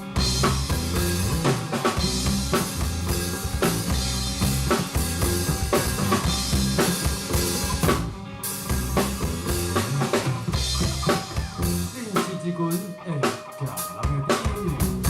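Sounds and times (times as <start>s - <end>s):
low bass notes: 0.0s - 12.6s, 13.9s - 15.0s
drum kit beat: 0.0s - 15.0s
live rock band playing: 0.0s - 15.0s.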